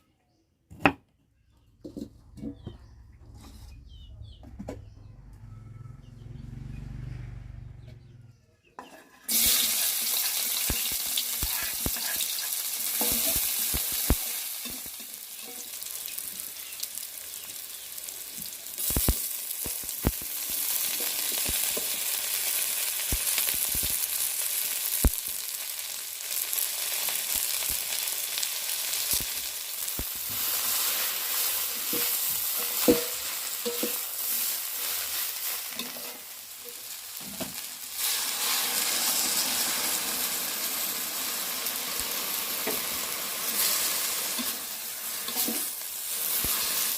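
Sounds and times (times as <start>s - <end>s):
food sizzling in hot oil: 9.3s - 46.9s.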